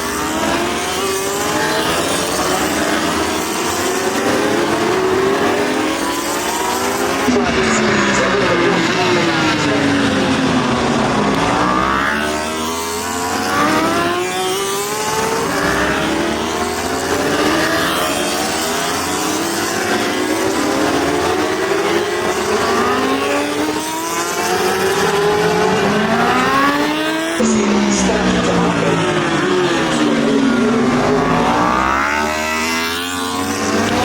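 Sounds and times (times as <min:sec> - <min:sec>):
racing motorcycle engines revving: 0:00.0 - 0:34.0.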